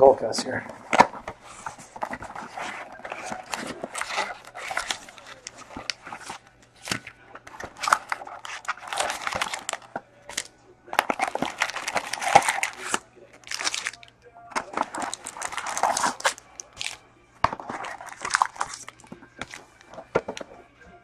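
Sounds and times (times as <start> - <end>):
foil packs crinkling: 0.8 - 20.5.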